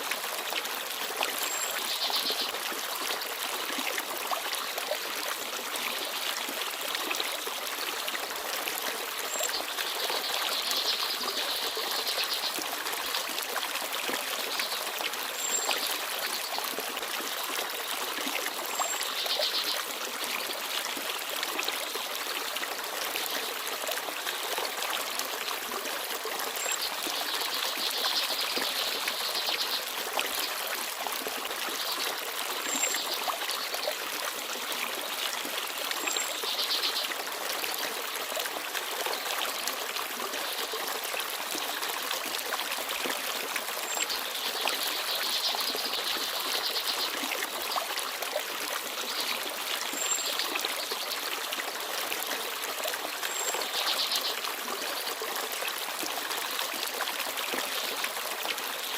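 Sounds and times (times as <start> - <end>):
stream babbling over stones: 0.0 - 58.9.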